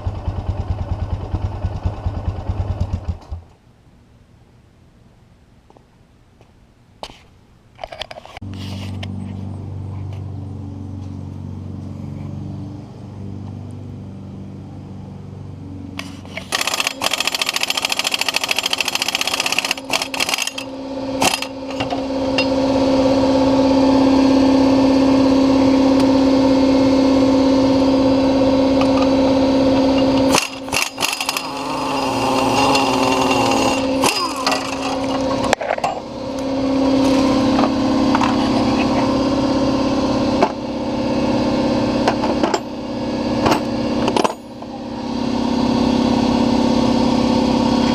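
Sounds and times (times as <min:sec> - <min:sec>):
atv engine idling and revving: 0:00.0 - 0:03.5, 0:08.4 - 0:47.9.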